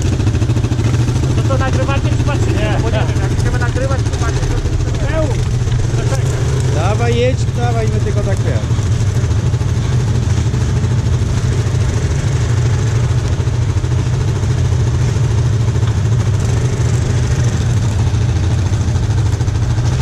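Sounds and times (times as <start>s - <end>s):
quad bike engine idling: 0.0s - 20.0s.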